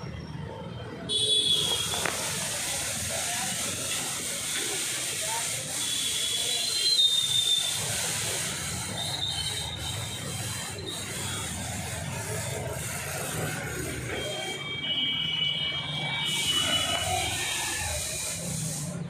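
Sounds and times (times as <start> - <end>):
steady hiss: 1.4 - 14.2, 16.2 - 19.0.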